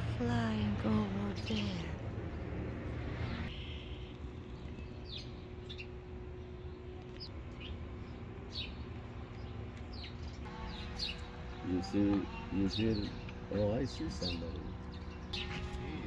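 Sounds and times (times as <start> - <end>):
steady low rumble: 0.0 - 16.0
small birds chirping: 0.2 - 2.4, 3.0 - 16.0.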